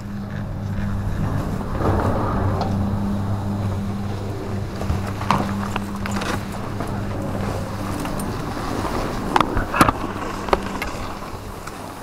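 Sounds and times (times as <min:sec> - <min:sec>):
machinery humming: 0:00.0 - 0:12.0
rustling noise: 0:00.0 - 0:12.0.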